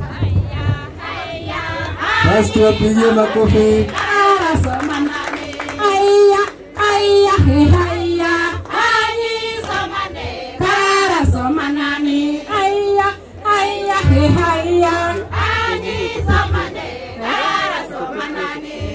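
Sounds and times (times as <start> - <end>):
women singing together: 0.0 - 18.9.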